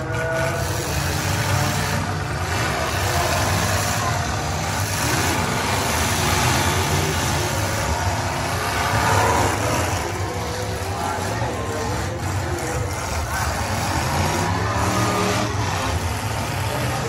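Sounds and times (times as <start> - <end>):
car engines revving: 0.0 - 17.0
crowd voices: 0.0 - 17.0.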